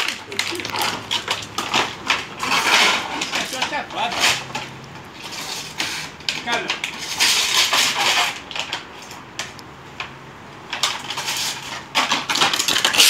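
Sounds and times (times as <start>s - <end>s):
dog playing with plastic bottle: 0.0s - 8.9s, 10.7s - 13.0s.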